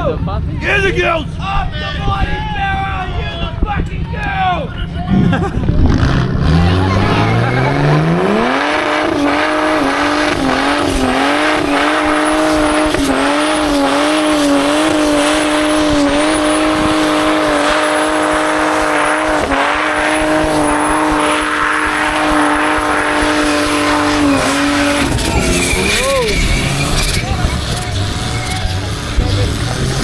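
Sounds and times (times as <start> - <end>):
car engine at high revs: 4.7 - 30.0
spinning tyres hissing: 5.7 - 30.0.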